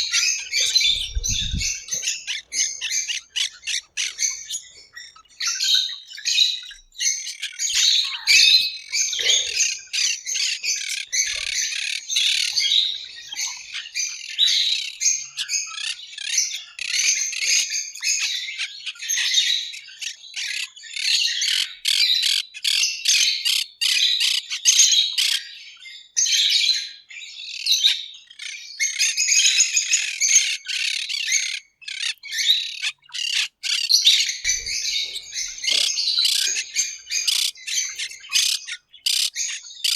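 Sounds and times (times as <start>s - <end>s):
parrots chattering and squawking: 0.0s - 25.5s, 27.5s - 39.9s.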